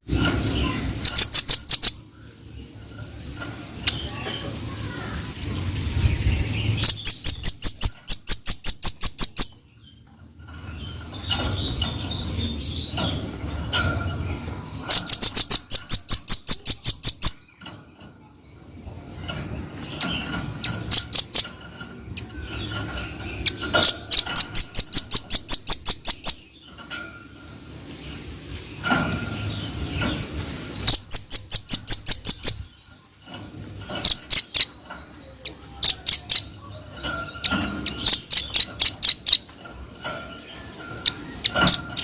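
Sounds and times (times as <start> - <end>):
faint bird chips: 0.0 - 42.0.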